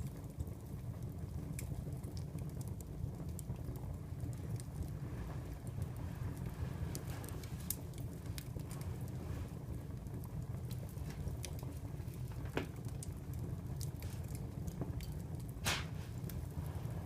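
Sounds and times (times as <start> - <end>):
fire crackles and pops: 0.0 - 17.0
wood fire rumbling: 0.0 - 17.0.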